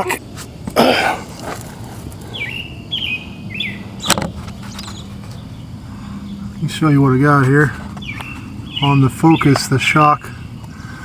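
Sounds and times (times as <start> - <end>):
bird chirping: 2.1 - 11.0.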